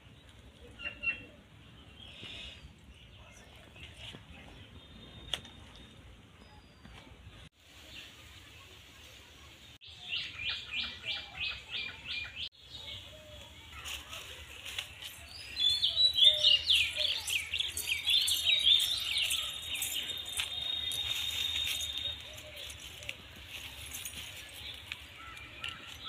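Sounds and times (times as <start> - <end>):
birds chirping: 0.0 - 8.2, 9.9 - 26.0.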